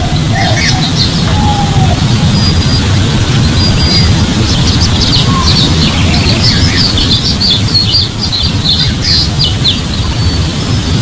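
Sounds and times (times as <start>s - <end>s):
small birds chirping: 0.0s - 11.0s
wind rumble on microphone: 0.0s - 11.0s.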